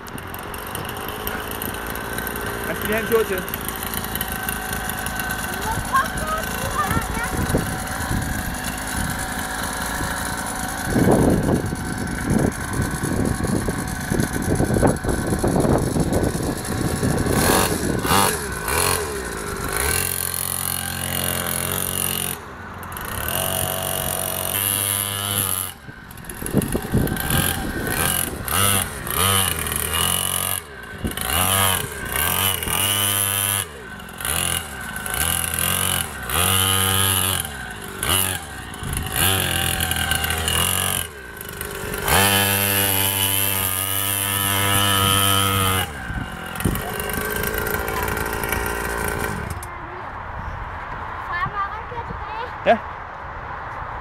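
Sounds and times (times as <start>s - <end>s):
dirt bike engine revving: 0.0s - 49.8s
rough rumbling noise: 0.0s - 52.7s.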